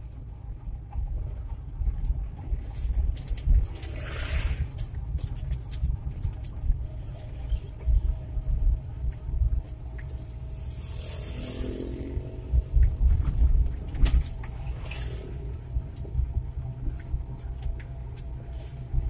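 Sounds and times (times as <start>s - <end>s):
pickup engine rumble: 0.0s - 19.0s
road noise: 0.0s - 19.0s.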